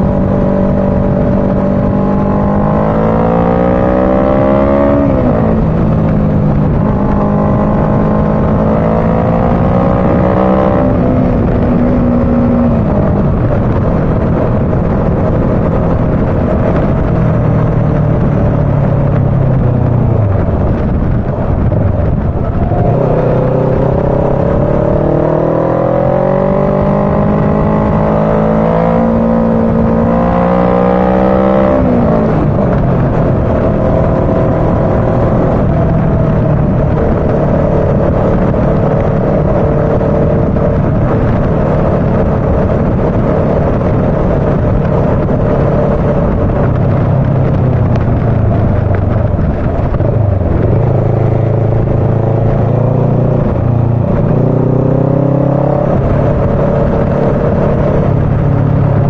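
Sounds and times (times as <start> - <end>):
motorcycle engine: 0.0 - 59.0
wind rushing over microphone: 0.0 - 59.0.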